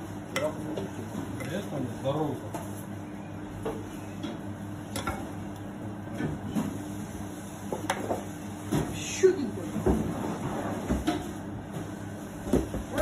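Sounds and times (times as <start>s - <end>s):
low hum of kitchen equipment: 0.0s - 13.0s.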